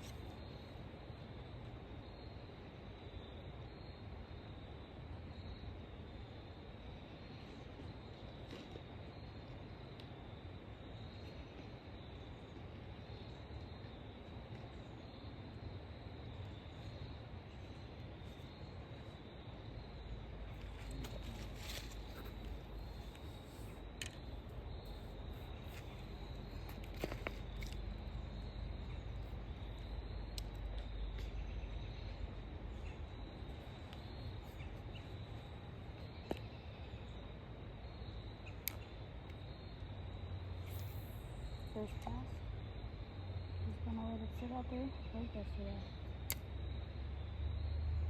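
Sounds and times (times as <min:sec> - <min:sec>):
faint insect trill: 0:00.0 - 0:48.0.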